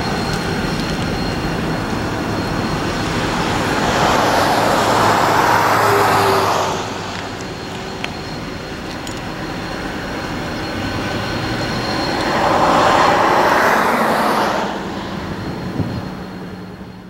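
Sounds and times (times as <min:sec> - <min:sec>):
broad rushing noise: 0:00.0 - 0:16.8
diesel locomotive engine humming: 0:00.0 - 0:17.0.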